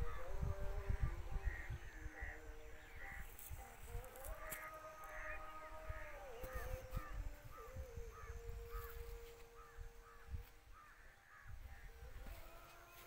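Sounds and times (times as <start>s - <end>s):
wind rumble on microphone: 0.0s - 12.9s
faint birds calling: 0.0s - 13.0s.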